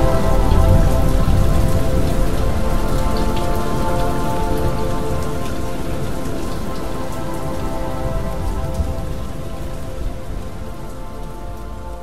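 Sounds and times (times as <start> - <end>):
soft held chord: 0.0 - 12.0
steady rain: 0.0 - 12.0.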